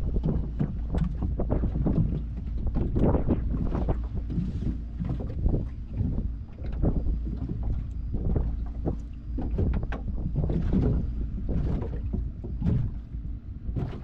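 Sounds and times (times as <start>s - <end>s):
constant low rumble: 0.0s - 14.0s
wind buffeting microphone: 0.0s - 14.0s.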